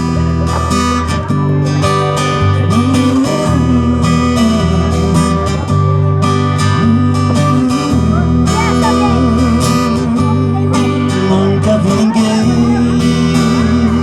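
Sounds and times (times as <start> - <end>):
steady bass: 0.0 - 14.0
strummed acoustic guitar: 0.0 - 14.0.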